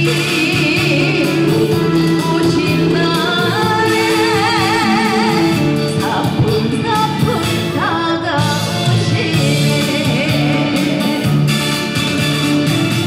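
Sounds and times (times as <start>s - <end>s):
person singing with vibrato: 0.0s - 11.9s
band playing: 0.0s - 13.0s.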